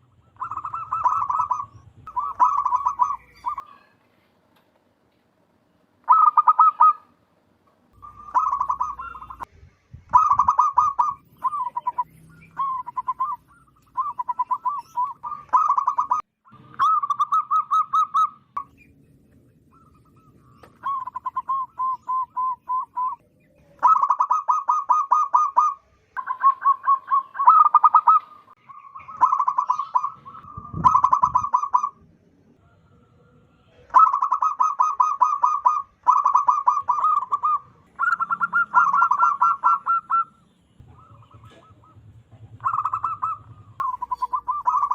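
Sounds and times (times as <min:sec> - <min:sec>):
dove cooing: 0:00.0 - 0:03.9, 0:06.1 - 0:07.1, 0:08.0 - 0:09.5, 0:10.1 - 0:18.4, 0:19.7 - 0:32.0, 0:32.7 - 0:44.9.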